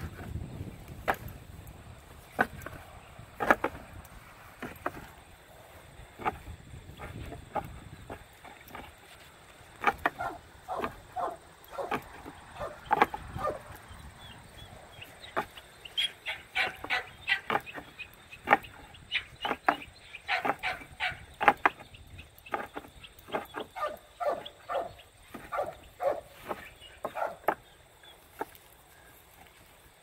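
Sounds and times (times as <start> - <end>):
horns knocking against branches: 0.0 - 14.0, 15.0 - 29.7.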